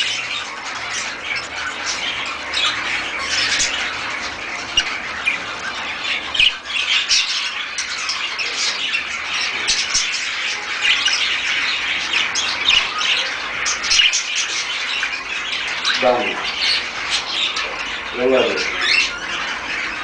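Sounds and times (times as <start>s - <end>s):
birds chirping and squawking: 0.0s - 20.0s.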